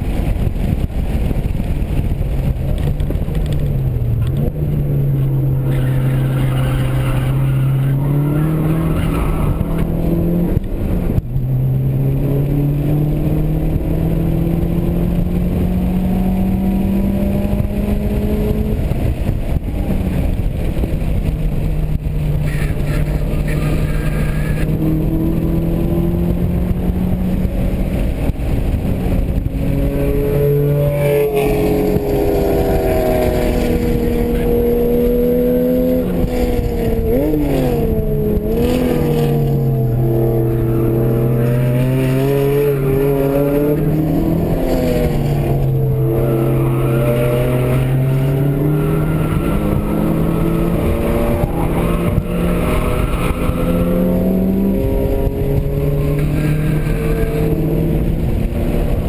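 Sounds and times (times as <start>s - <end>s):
car engine accelerating and shifting: 0.0s - 59.0s.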